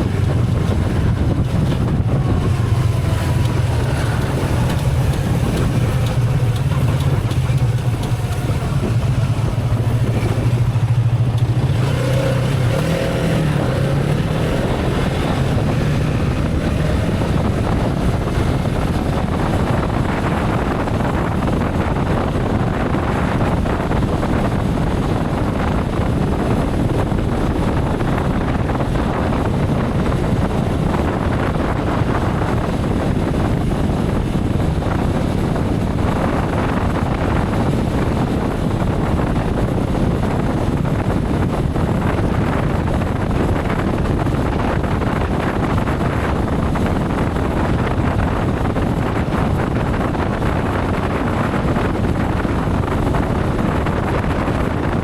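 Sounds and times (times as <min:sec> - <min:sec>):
motorcycle engine: 0:00.0 - 0:55.0
wind on microphone: 0:00.0 - 0:55.0.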